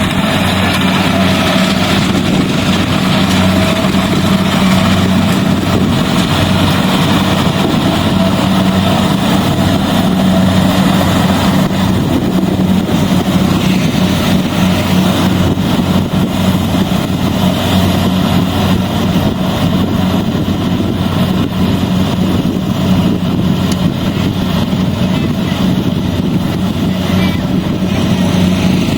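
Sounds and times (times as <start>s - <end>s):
combine harvester engine hum: 0.0s - 28.9s
machinery noise: 0.0s - 28.9s.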